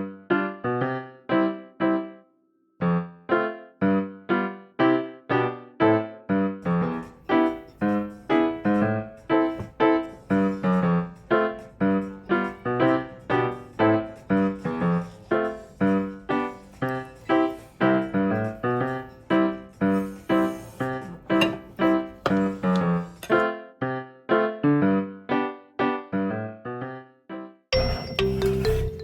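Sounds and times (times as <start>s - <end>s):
light piano tune: 0.0s - 29.0s.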